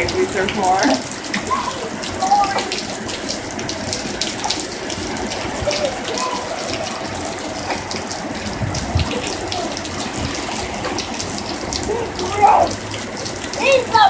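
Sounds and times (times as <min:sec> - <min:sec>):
heavy rain pouring: 0:00.0 - 0:14.0
water splashing and gushing: 0:00.0 - 0:14.0.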